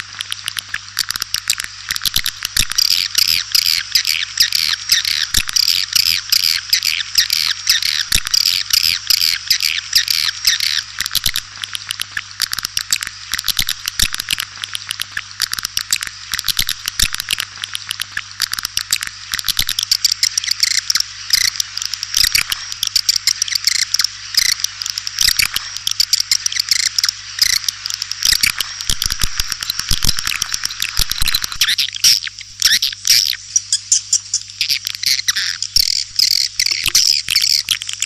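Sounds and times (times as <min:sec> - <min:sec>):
faint electrical hum: 0:00.0 - 0:38.0
swiftlets chattering and twittering: 0:00.4 - 0:38.0.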